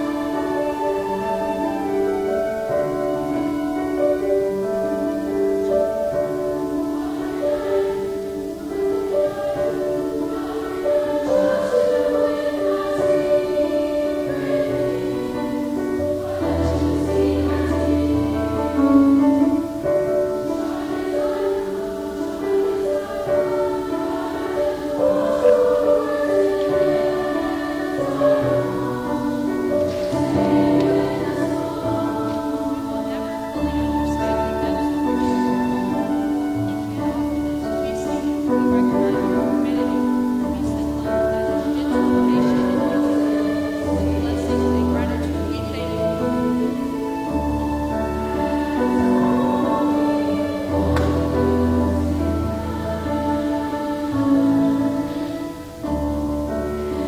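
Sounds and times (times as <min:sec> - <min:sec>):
choir singing held chords: 0:00.0 - 0:57.0
string orchestra: 0:00.0 - 0:57.0.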